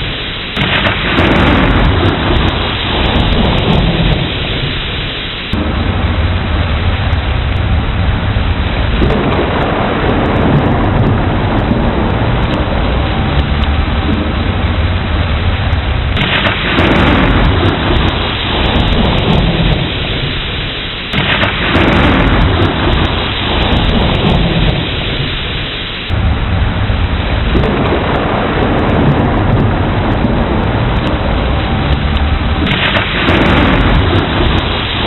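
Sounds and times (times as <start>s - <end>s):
heavy rain: 0.0s - 35.0s
rolling thunder: 0.0s - 35.0s.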